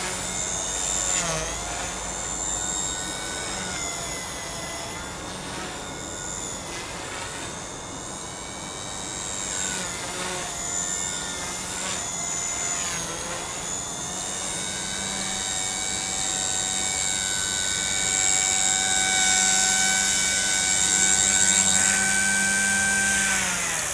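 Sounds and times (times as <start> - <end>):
model helicopter motor whine: 0.0 - 23.9.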